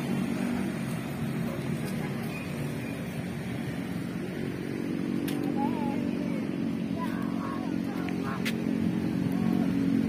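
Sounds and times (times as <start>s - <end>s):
motor vehicle engine humming: 0.0s - 10.0s
road traffic: 0.0s - 10.0s.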